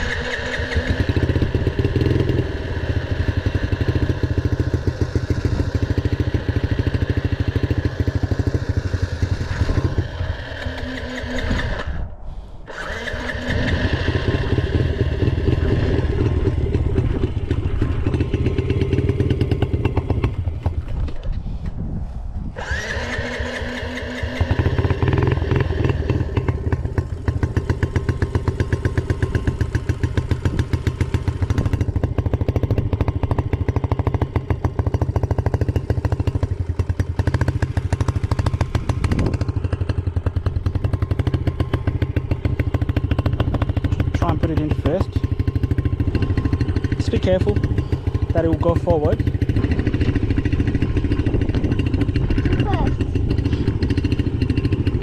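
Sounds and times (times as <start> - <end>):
dirt bike engine revving: 0.0 - 12.1, 12.7 - 21.2, 22.6 - 55.0.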